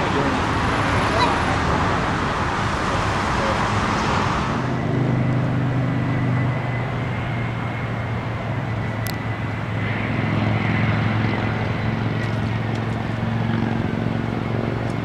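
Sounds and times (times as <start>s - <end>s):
jet engines droning and whining: 0.0s - 15.0s.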